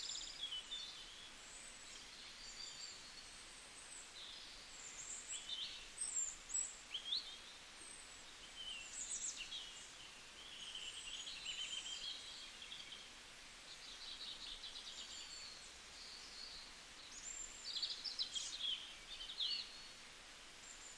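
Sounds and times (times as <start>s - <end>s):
faint outdoor hiss: 0.0s - 20.9s
small birds chirping: 0.0s - 20.9s.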